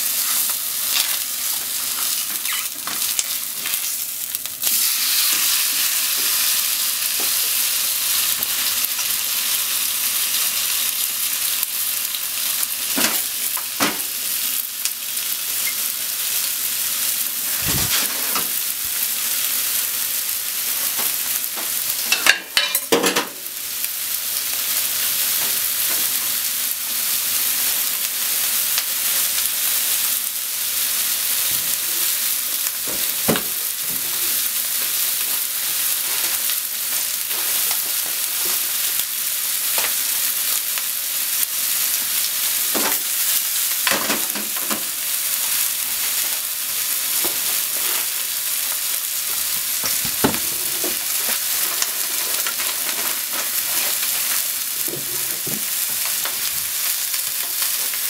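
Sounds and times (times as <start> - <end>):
chicken sizzling in a frying pan: 0.0 - 58.0.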